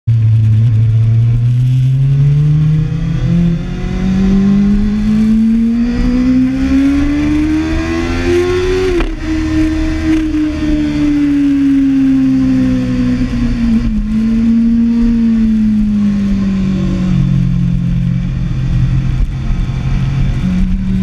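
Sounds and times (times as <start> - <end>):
motorcycle engine accelerating: 0.1 - 21.0.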